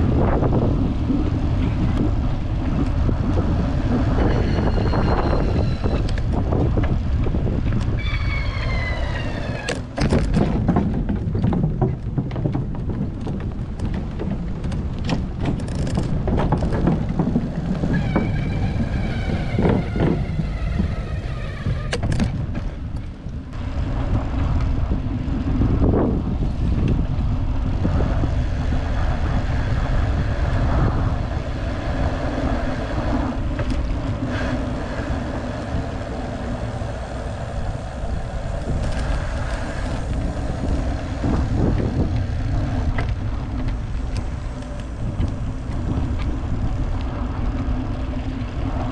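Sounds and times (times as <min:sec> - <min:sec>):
bicycle tyre rumble: 0:00.0 - 0:48.9
wind buffeting microphone: 0:00.0 - 0:48.9.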